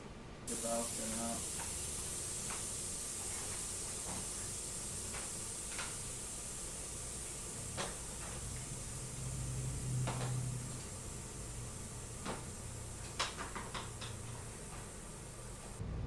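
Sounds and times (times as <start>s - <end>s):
faint steady hiss: 0.0s - 15.8s.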